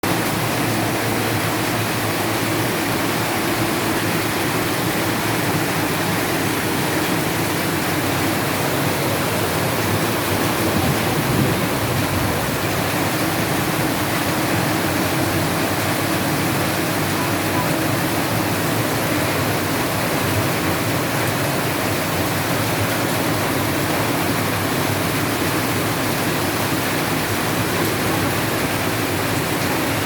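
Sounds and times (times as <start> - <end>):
rain pouring down: 0.0 - 30.0.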